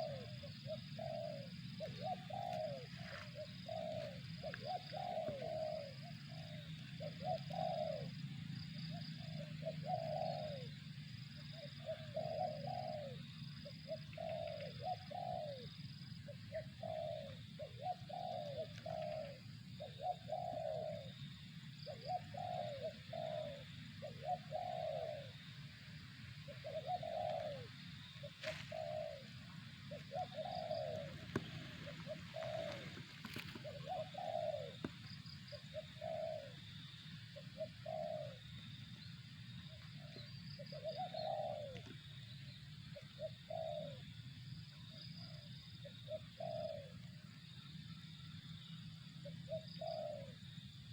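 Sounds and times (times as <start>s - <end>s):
dove cooing: 0.0s - 39.1s, 39.7s - 48.0s, 48.7s - 50.9s.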